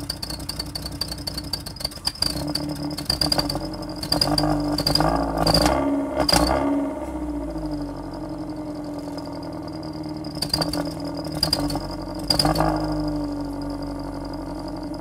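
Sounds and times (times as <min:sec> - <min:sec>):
car engine revving: 0:00.0 - 0:15.0
exhaust whistle tone: 0:00.0 - 0:15.0.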